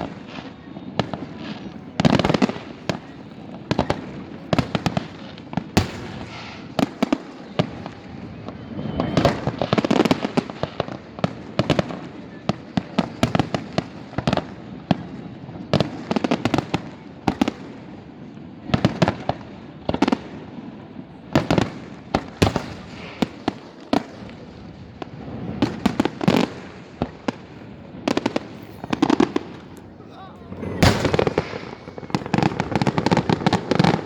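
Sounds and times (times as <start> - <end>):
fireworks bangs and pops: 0.0 - 34.0.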